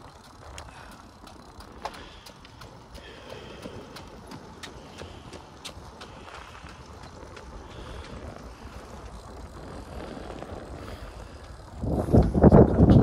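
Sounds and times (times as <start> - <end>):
bicycle tyres hissing: 0.0 - 13.0
wind buffeting microphone: 0.0 - 13.0.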